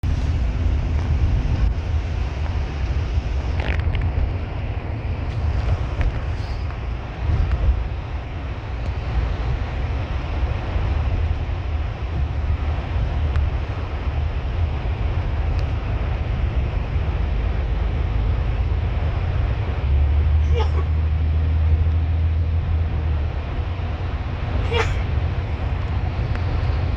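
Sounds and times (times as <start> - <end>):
bus engine and road rumble: 0.0 - 26.9
tyre and wind hiss: 0.0 - 26.9.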